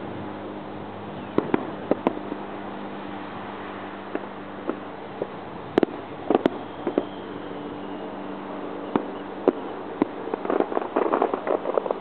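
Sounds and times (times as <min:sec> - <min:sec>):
low hum: 0:00.0 - 0:12.0
fireworks bangs and crackles: 0:01.2 - 0:02.4, 0:03.0 - 0:12.0.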